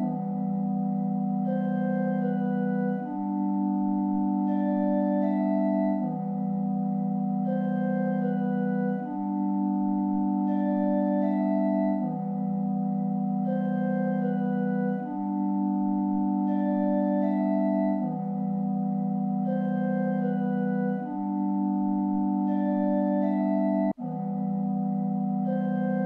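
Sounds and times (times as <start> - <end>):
melody of high held notes: 0.0 - 26.0
slow organ-like chords: 0.0 - 26.0.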